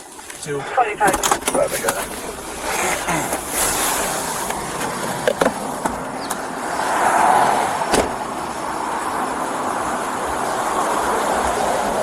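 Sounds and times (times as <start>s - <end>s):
car rushing noise: 0.0s - 12.0s.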